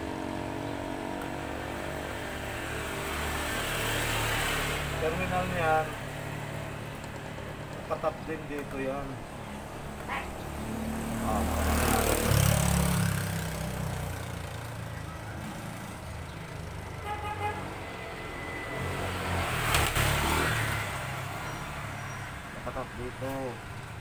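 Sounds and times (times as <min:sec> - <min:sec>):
vehicles passing rumble: 0:00.0 - 0:24.0.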